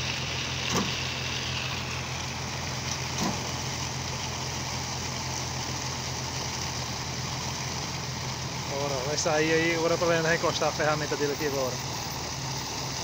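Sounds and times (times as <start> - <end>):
diesel truck engine idling: 0.0 - 13.0
steady hiss: 0.0 - 13.0.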